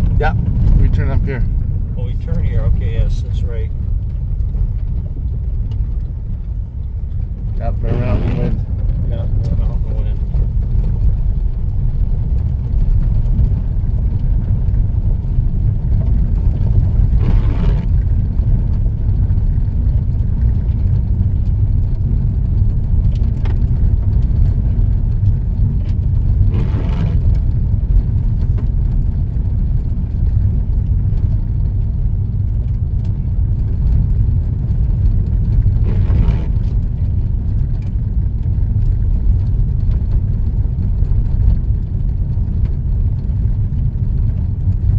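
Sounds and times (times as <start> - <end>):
car road and engine rumble: 0.0 - 44.9.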